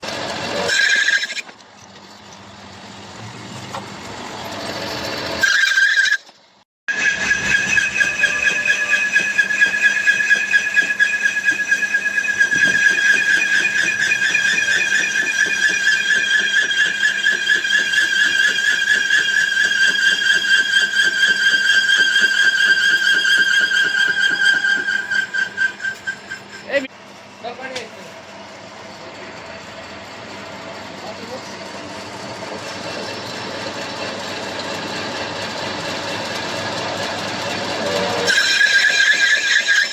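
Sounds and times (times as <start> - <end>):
lathe squealing while cutting metal: 0.0 - 2.3, 4.5 - 39.9.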